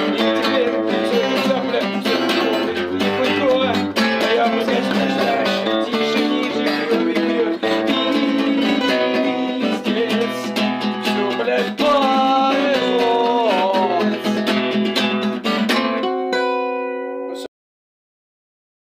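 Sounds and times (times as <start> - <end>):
acoustic guitar strumming: 0.0 - 17.5.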